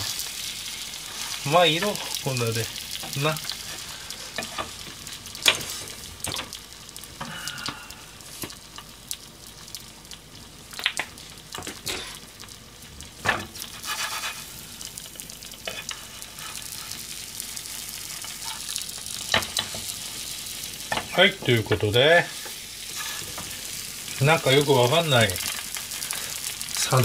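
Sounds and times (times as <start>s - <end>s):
sandwich sizzling in a pan: 0.0s - 27.0s.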